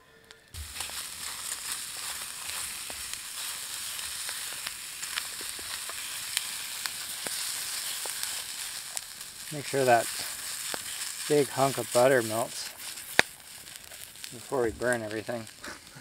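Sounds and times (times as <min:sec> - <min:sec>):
sharp pops and crackles: 0:00.5 - 0:16.0
vegetables sizzling in frying pan: 0:00.6 - 0:16.0.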